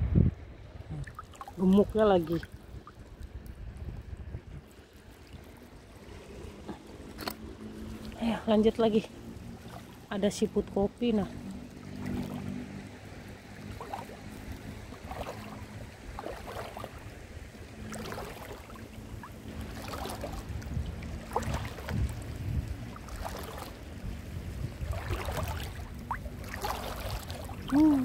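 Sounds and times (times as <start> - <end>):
steady low hum: 0.0 - 28.0
seawater sloshing and splashing: 0.7 - 28.0.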